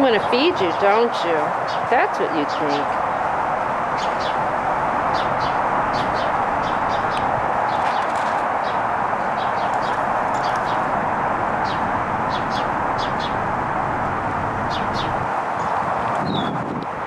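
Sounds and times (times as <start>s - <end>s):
small birds chirping: 0.0s - 3.1s, 3.9s - 16.6s.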